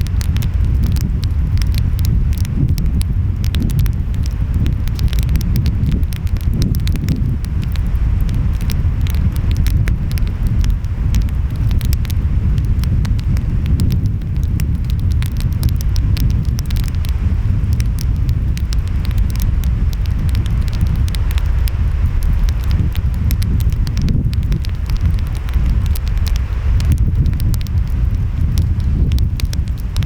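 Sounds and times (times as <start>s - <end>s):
ocean waves rumbling: 0.0s - 30.0s
wind: 0.0s - 30.0s
wood fire crackling and popping: 0.0s - 30.0s.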